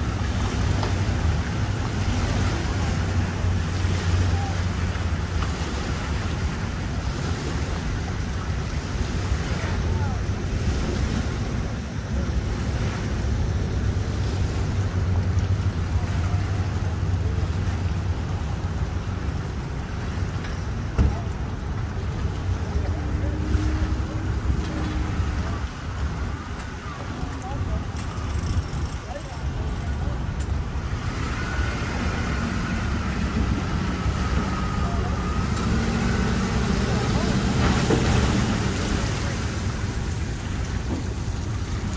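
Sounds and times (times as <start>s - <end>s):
pickup truck engine rumbling: 0.0s - 41.9s
water lapping: 0.0s - 41.9s.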